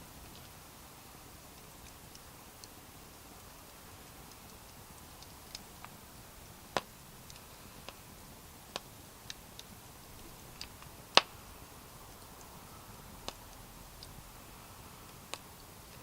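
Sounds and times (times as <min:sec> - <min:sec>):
faint fire hiss: 0:00.0 - 0:16.0
campfire crackling and popping: 0:00.1 - 0:16.0.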